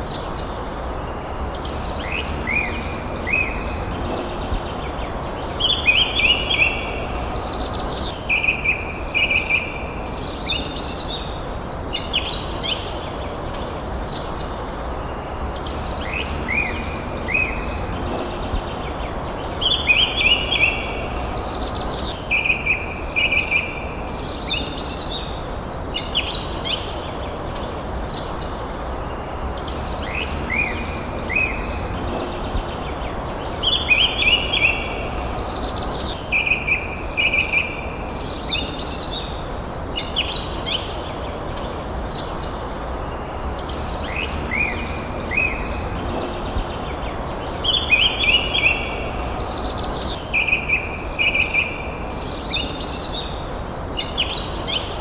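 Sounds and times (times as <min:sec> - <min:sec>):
forest birds singing: 0:00.0 - 0:55.0
low background hiss: 0:00.0 - 0:55.0.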